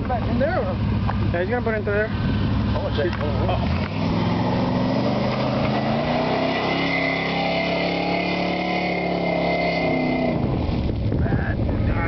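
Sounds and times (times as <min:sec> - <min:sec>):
pickup truck engine driving through mud: 0:00.0 - 0:11.2.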